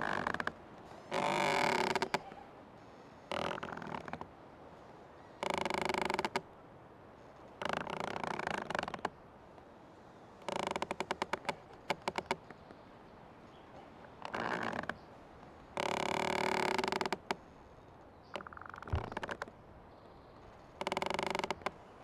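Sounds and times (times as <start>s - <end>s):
old tree creaking: 0.0s - 4.4s, 5.2s - 6.5s, 7.2s - 9.2s, 10.0s - 12.8s, 13.7s - 19.6s, 20.2s - 22.0s.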